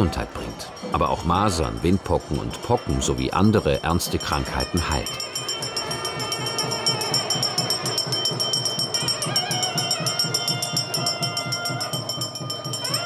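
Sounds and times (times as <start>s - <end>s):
jingling rattling percussion: 0.0s - 13.0s
high ringing tone: 0.4s - 13.0s.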